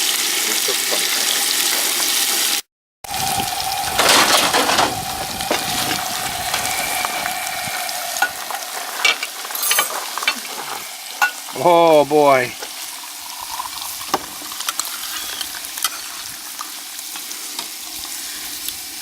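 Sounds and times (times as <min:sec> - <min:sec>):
fish sizzling in grease: 0:00.0 - 0:19.0.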